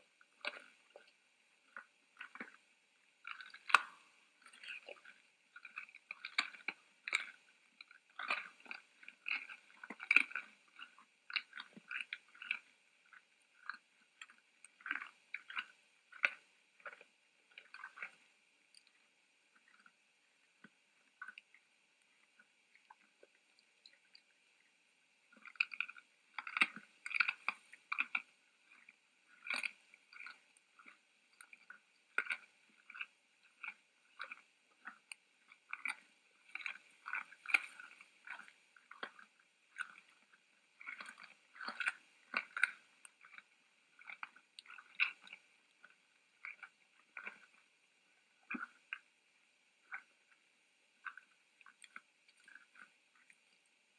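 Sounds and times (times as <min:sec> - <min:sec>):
deer chewing and crunching feed: 0:00.0 - 0:49.1, 0:49.8 - 0:53.8.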